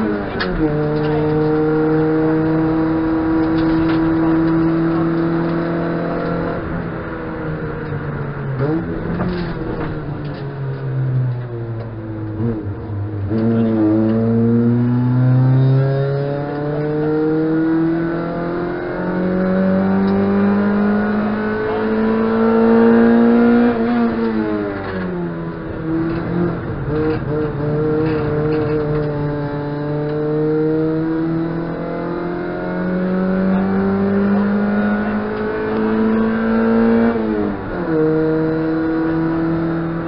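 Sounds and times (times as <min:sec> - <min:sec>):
car engine revving from inside: 0:00.0 - 0:06.7, 0:12.2 - 0:40.0.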